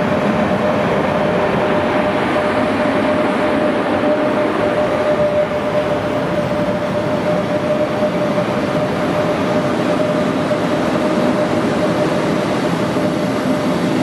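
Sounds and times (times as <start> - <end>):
thin steady whine: 0.0 - 14.0
train wheels rumbling on rails: 0.0 - 14.0.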